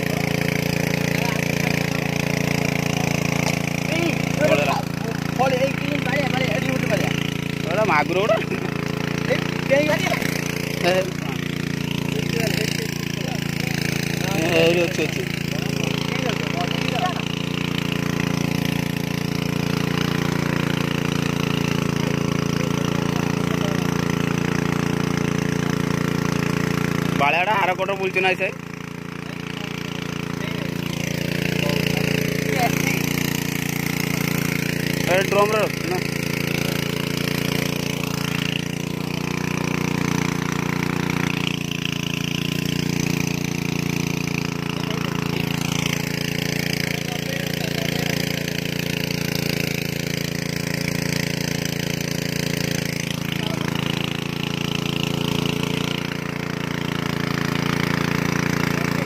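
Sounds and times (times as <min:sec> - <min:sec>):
engine chugging: 0:00.0 - 0:59.0.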